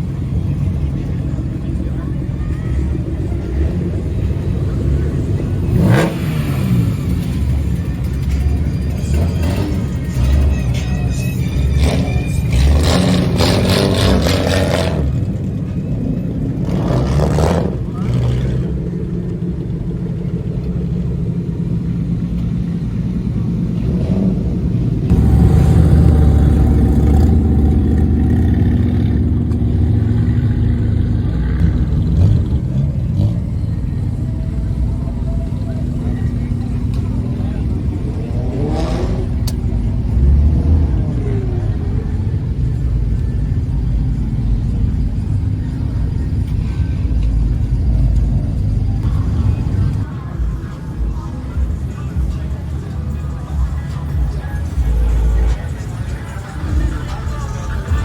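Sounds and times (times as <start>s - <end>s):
car engine running and revving: 0.0s - 58.0s.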